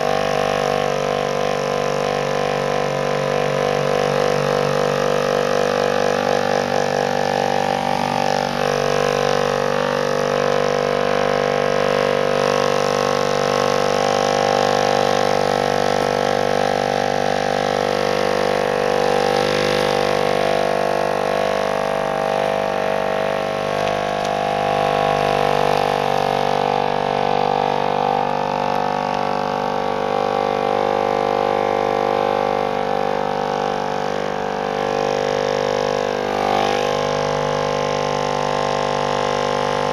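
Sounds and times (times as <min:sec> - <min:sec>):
massager motor buzzing hum: 0:00.0 - 0:39.9.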